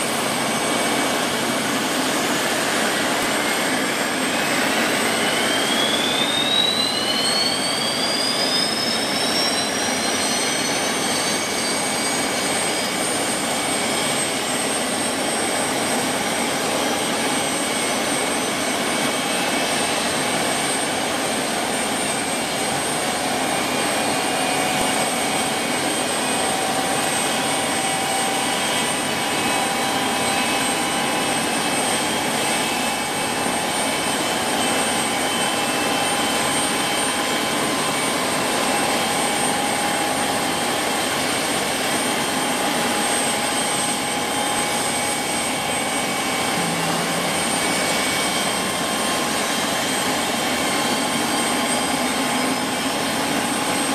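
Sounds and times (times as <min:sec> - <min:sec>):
helicopter turbine and rotor noise: 0:00.0 - 0:53.9
high turbine whine: 0:00.0 - 0:53.9.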